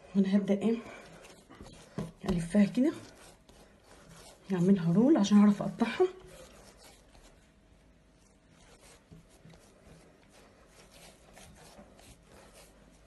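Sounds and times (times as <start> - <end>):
hands rolling dough: 0.7 - 13.0.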